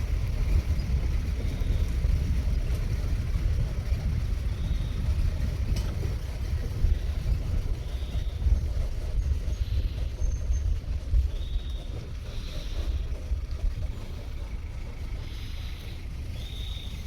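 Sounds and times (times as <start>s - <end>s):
jeep engine and tyres rumbling: 0.0s - 17.0s.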